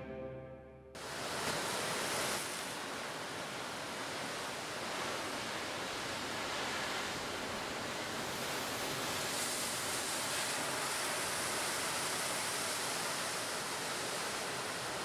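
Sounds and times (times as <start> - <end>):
surf breaking on rocky shore: 1.0 - 15.0.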